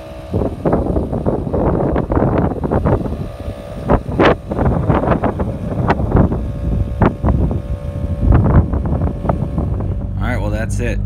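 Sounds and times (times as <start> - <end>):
wind buffeting microphone: 0.0 - 10.8
vehicle engine running: 0.0 - 11.0.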